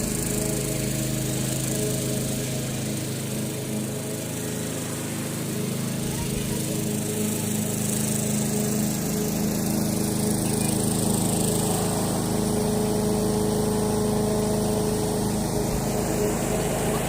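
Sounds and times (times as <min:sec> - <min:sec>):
lawn mower cutting grass: 0:00.0 - 0:17.0.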